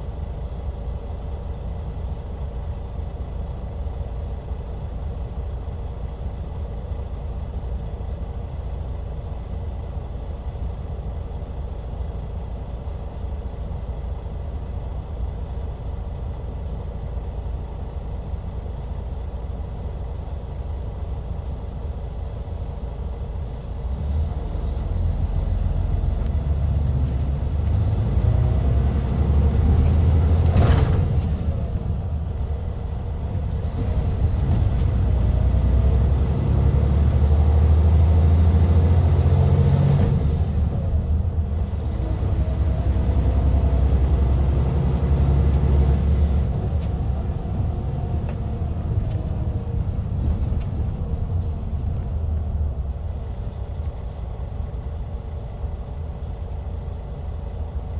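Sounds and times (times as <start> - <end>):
diesel coach engine drone: 0.0 - 57.9.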